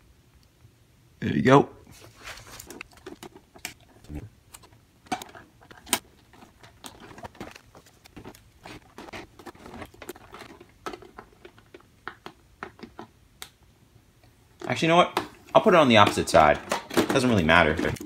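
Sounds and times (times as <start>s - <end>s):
hands handling plastic toy: 1.9s - 13.2s, 14.2s - 18.0s.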